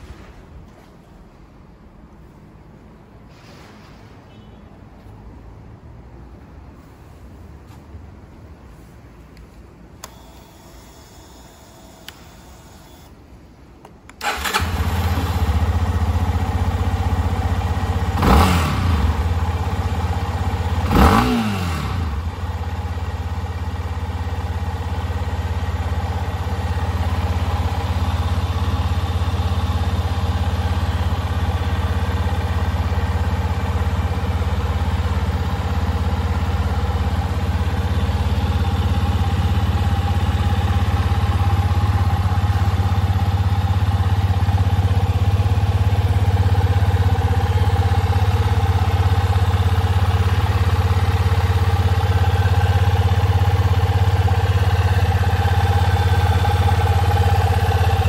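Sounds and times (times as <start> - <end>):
motorcycle engine starting and idling: 9.9 - 58.0.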